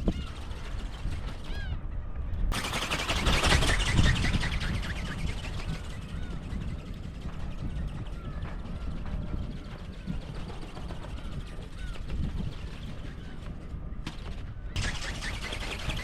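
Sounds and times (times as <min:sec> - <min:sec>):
rapid clatter: 0:00.0 - 0:01.7, 0:02.5 - 0:16.0
wind buffeting microphone: 0:00.0 - 0:16.0.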